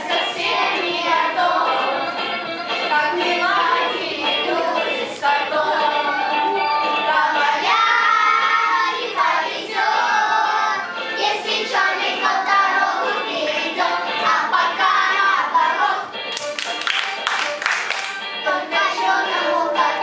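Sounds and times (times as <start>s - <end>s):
children singing together: 0.0s - 2.2s, 2.9s - 16.1s, 18.4s - 20.0s.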